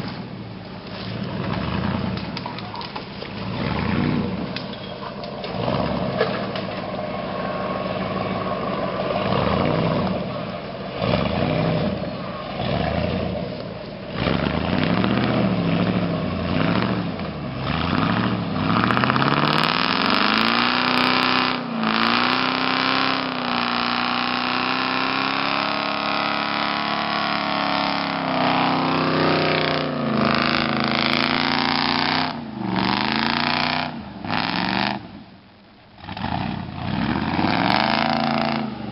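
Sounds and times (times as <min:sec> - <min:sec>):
truck engine revving hard: 0:01.0 - 0:02.4, 0:03.3 - 0:35.2, 0:36.0 - 0:38.9.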